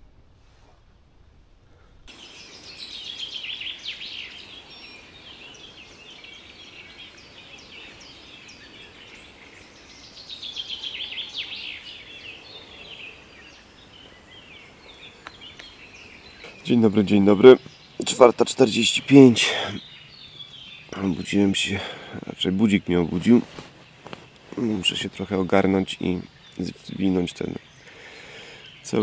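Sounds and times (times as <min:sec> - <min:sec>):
birds chirping and trilling: 0:01.6 - 0:29.0.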